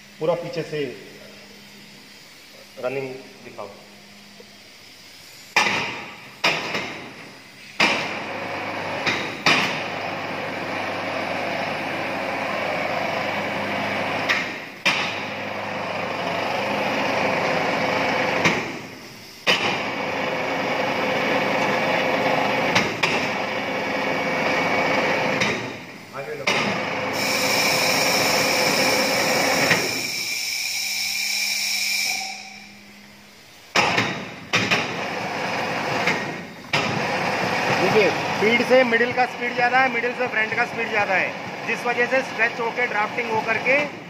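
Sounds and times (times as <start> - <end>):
textile machine clatter and hum: 0.0 - 30.3, 32.4 - 44.0.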